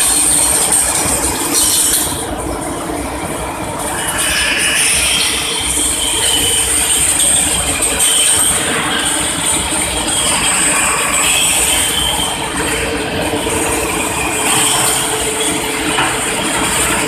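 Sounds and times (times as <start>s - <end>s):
rolling mill machinery clattering: 0.0s - 17.0s
steady high whine: 0.0s - 17.0s.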